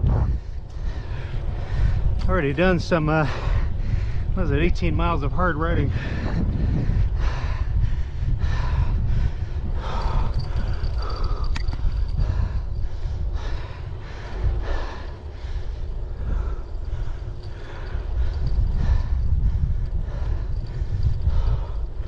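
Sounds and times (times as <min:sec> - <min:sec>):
wind buffeting microphone: 0:00.0 - 0:22.0
person breathing hard: 0:00.2 - 0:02.2, 0:03.2 - 0:04.4, 0:05.9 - 0:22.0.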